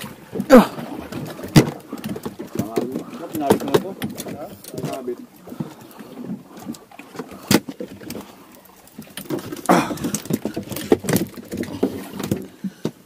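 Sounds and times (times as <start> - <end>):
knocks and taps on boat: 0.0 - 8.2, 9.0 - 13.0.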